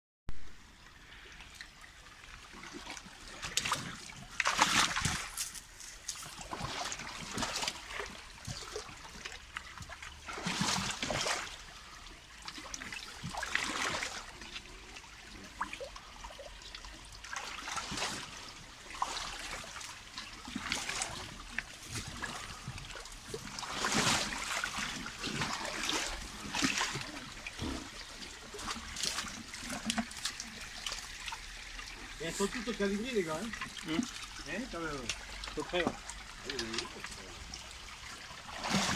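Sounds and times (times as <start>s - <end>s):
stream water trickling: 0.4s - 38.9s
water splashing: 0.5s - 38.9s.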